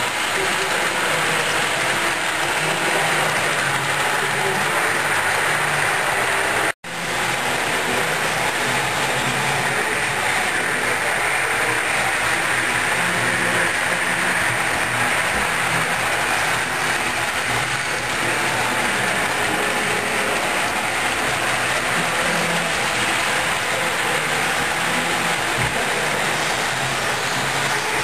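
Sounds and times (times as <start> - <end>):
model train whirring on track: 0.0 - 28.0.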